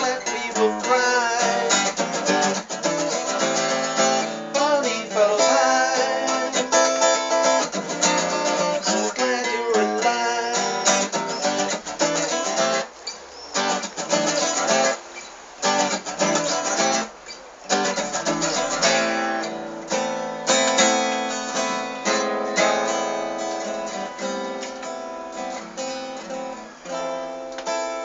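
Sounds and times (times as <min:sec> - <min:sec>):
acoustic guitar chords: 0:00.0 - 0:28.0.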